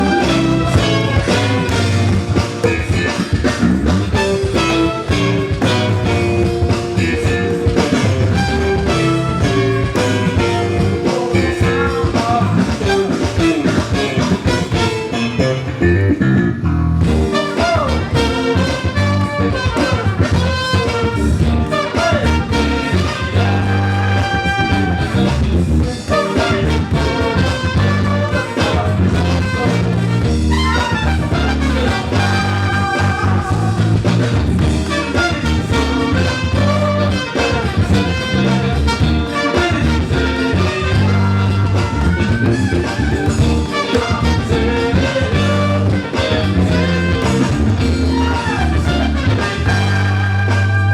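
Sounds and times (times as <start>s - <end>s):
soul-funk band playing: 0.0s - 50.9s.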